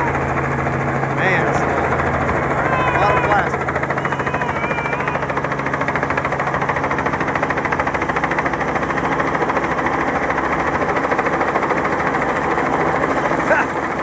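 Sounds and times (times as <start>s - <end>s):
helicopter engine drone: 0.0s - 14.0s
helicopter rotor beating: 0.0s - 14.0s.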